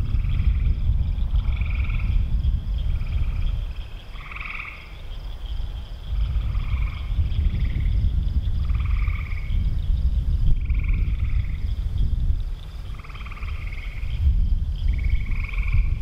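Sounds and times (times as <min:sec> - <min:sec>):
frogs trilling: 0:00.0 - 0:16.0.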